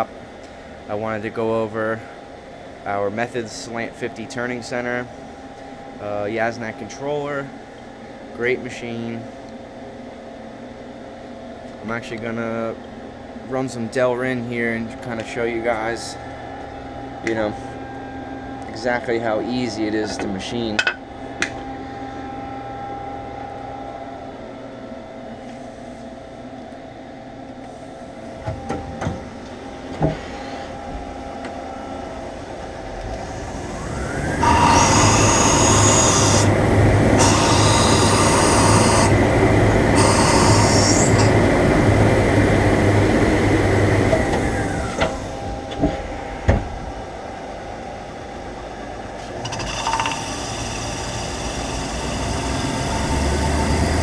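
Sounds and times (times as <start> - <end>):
machine hum: 0.0 - 54.0
spindle whine: 0.0 - 54.0.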